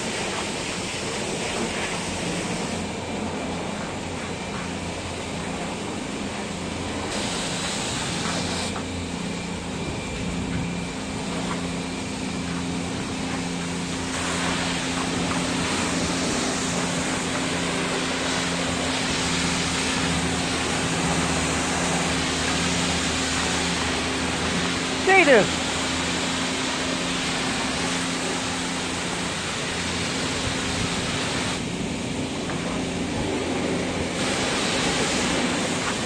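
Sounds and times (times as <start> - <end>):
pressure washer spraying hiss: 0.0 - 4.2, 4.8 - 9.7, 10.4 - 31.6, 32.6 - 36.0
pump humming: 0.0 - 36.0.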